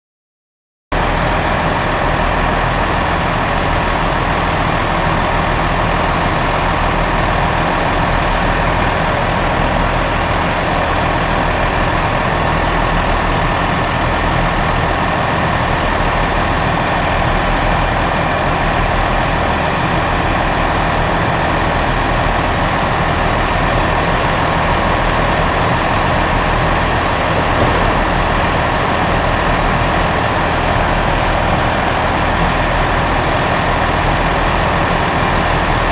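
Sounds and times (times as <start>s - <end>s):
diesel train engine idling: 0.9s - 35.9s.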